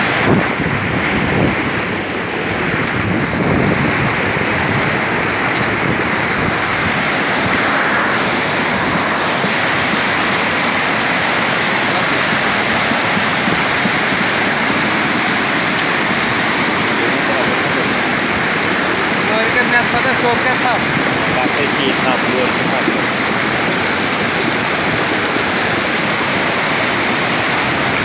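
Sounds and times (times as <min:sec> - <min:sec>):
rushing stream water: 0:00.0 - 0:28.0
wind buffeting microphone: 0:00.0 - 0:28.0.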